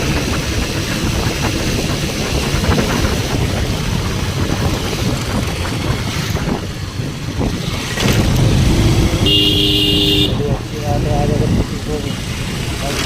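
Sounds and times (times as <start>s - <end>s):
wind on microphone: 0.0s - 12.9s
road vehicle running: 0.0s - 13.0s.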